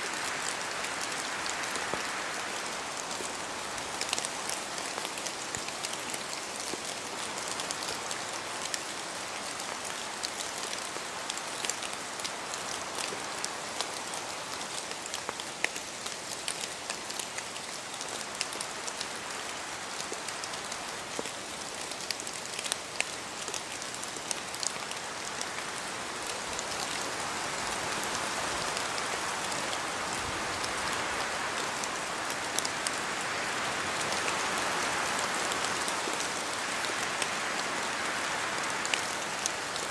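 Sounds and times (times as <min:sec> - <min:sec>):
rain falling through trees: 0:00.0 - 0:39.9
raindrops tapping and pattering: 0:00.0 - 0:39.9.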